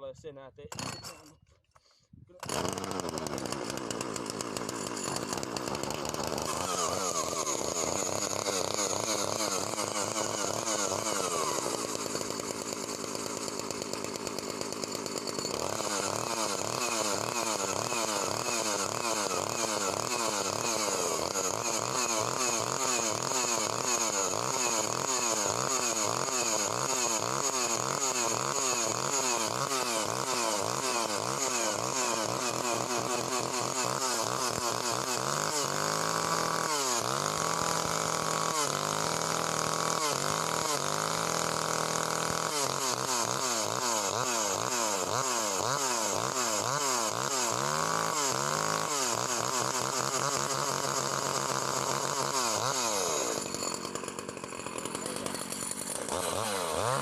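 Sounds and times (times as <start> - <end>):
two-stroke chainsaw engine running: 0.7 - 1.2, 1.8 - 57.0.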